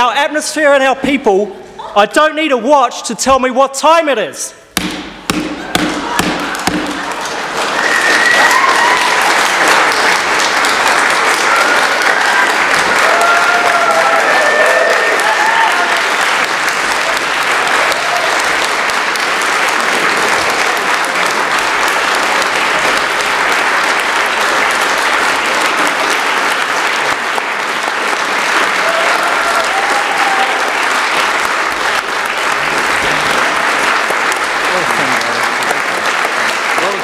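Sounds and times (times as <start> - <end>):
crowd applause: 5.5 - 37.0.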